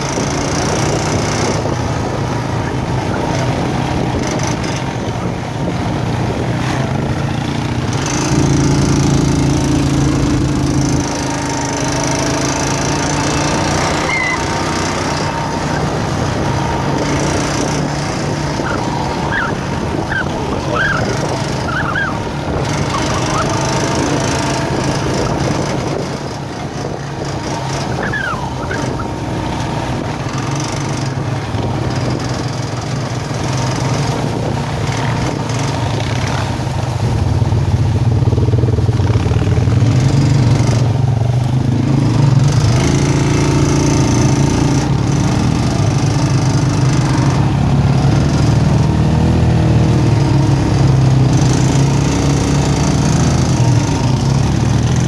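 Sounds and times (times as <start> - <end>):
quad bike engine: 0.0 - 55.0.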